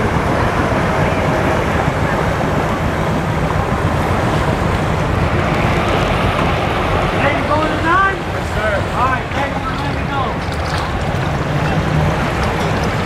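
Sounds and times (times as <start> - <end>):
boats on water: 0.0 - 13.0
water washing: 0.0 - 13.0
wind buffeting microphone: 0.0 - 13.0.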